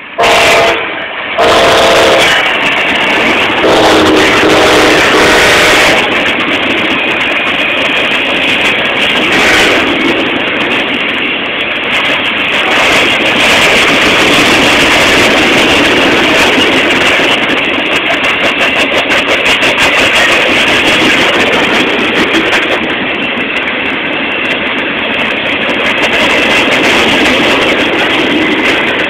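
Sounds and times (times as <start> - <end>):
diesel locomotive engine: 0.0 - 29.0
train wheels rolling on rails: 0.0 - 29.0.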